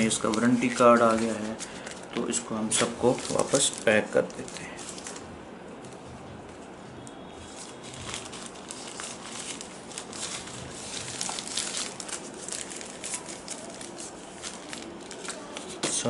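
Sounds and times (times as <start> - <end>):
paper rustling and crinkling: 0.0 - 6.0, 7.4 - 16.0.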